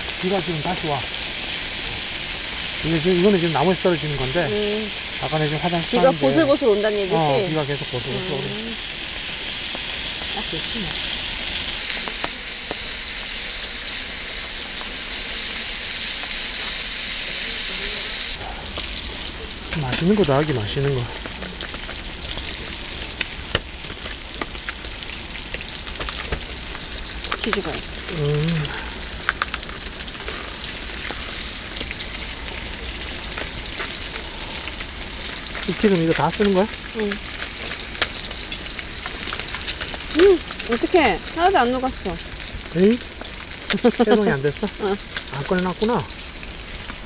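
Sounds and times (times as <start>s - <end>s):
meat sizzling in a frying pan: 0.0s - 47.0s.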